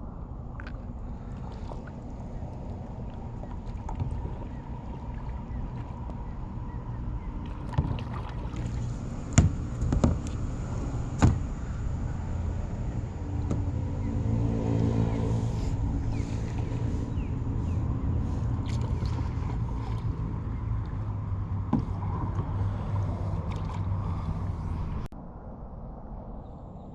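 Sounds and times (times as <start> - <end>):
engine hum: 0.0 - 25.1
water and wind rumble: 0.0 - 26.9.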